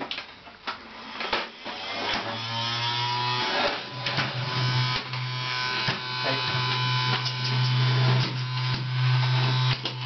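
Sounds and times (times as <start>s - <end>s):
vacuum cleaner motor whine: 1.0s - 10.0s.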